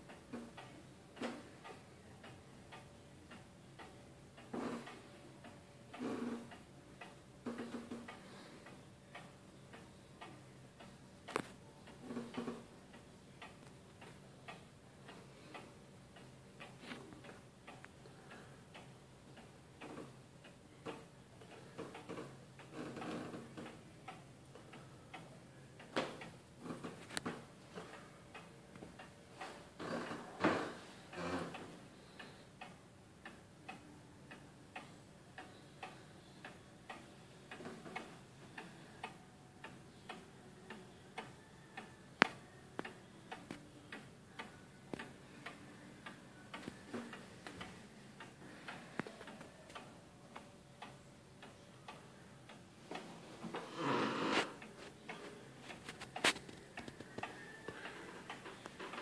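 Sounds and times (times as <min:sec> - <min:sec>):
wall clock ticking: 0:00.0 - 0:59.0.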